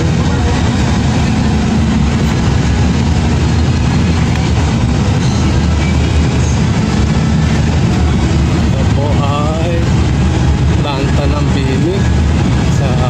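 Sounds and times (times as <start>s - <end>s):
bus engine drone and road noise: 0.0s - 13.0s.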